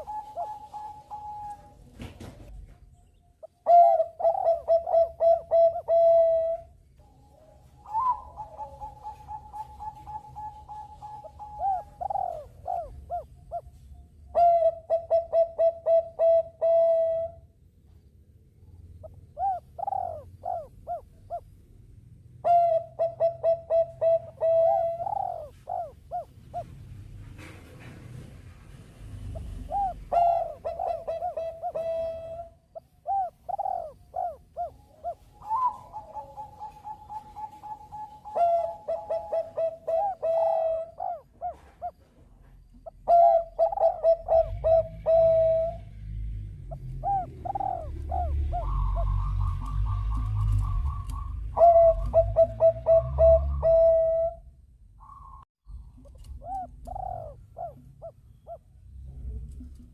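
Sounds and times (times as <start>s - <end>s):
doves cooing: 0.0s - 2.7s, 3.4s - 17.5s, 18.9s - 21.6s, 22.4s - 28.0s, 29.0s - 55.4s, 56.0s - 59.9s.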